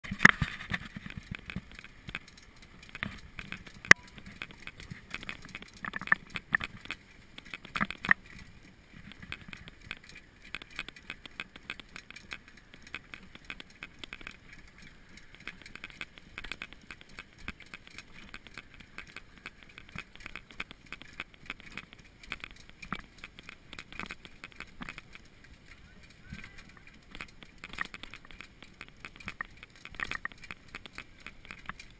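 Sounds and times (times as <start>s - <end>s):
cart rattling: 0.0s - 31.9s
horse hooves on gravel: 0.0s - 31.9s.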